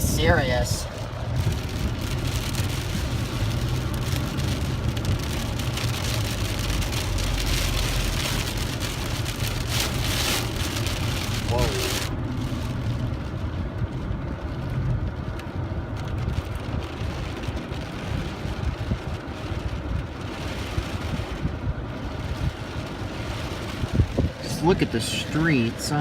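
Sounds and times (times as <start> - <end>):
heavy rain rumble: 0.0 - 26.0
wind buffeting microphone: 0.0 - 26.0.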